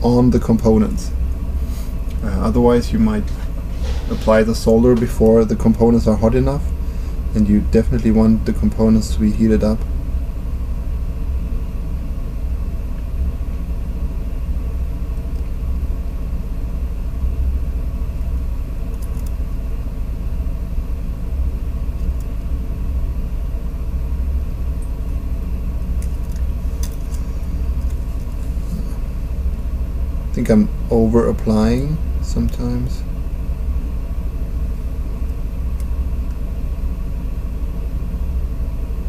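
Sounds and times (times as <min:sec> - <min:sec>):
faint electrical hum: 0:00.0 - 0:39.0
steady low rumble: 0:00.0 - 0:39.0.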